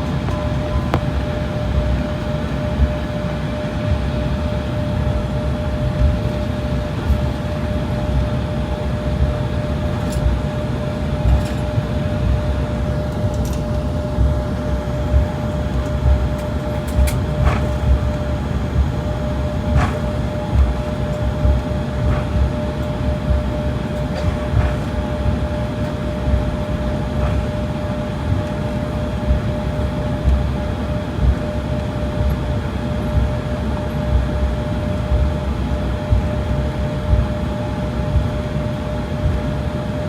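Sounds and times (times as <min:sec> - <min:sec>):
airliner engines rumbling: 0:00.0 - 0:40.0
constant cabin hum: 0:00.0 - 0:40.0.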